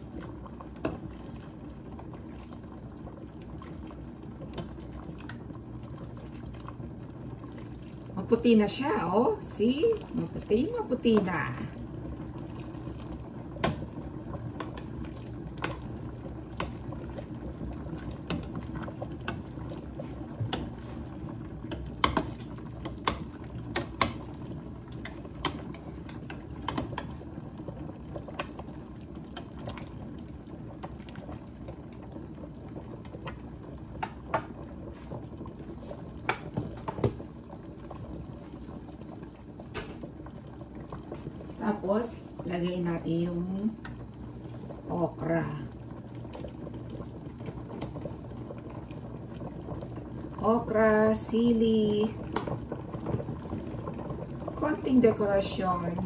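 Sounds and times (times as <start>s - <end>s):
broth boiling with bubbling: 0.0s - 56.0s.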